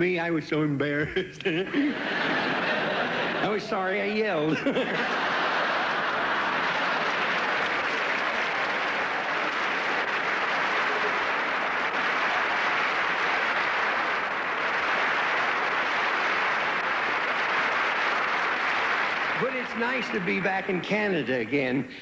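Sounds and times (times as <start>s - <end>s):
audience applauding: 1.8s - 21.6s.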